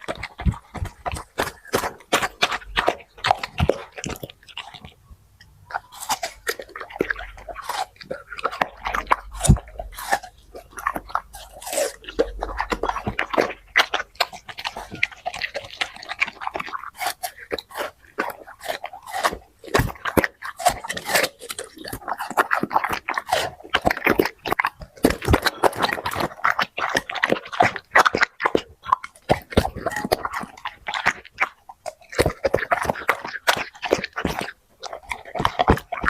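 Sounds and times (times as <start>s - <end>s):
dog chewing and crunching food: 0.0s - 36.0s.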